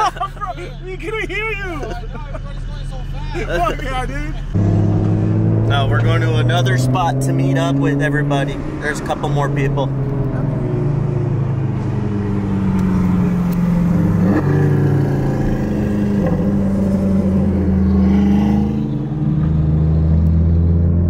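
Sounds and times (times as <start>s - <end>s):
car engine droning: 0.0s - 21.0s.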